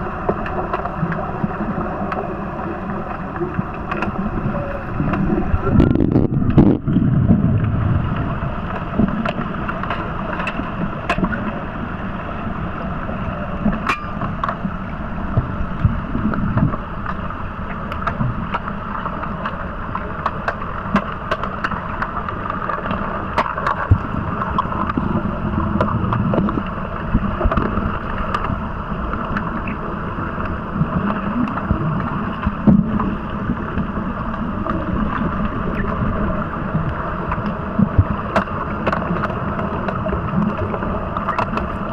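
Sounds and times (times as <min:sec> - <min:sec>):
muffled underwater rushing: 0:00.0 - 0:41.9.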